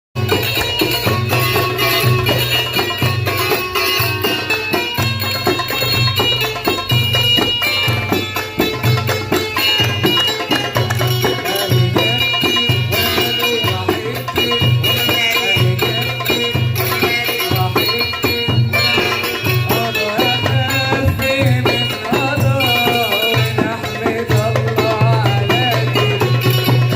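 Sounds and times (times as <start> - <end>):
hand drum rhythm: 0.2 - 26.9.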